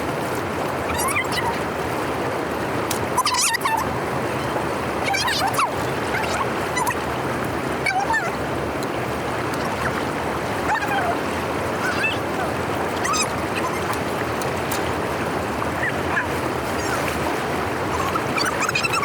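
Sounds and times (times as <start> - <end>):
water rushing through drain: 0.0 - 19.0.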